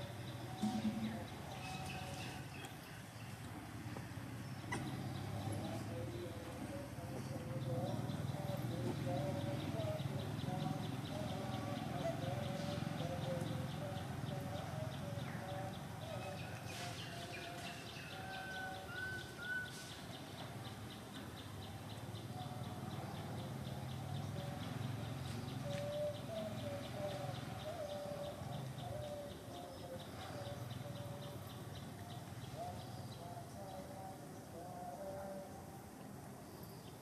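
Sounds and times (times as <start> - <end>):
birds calling: 0.0 - 35.5
insect chorus ticking: 3.4 - 33.8.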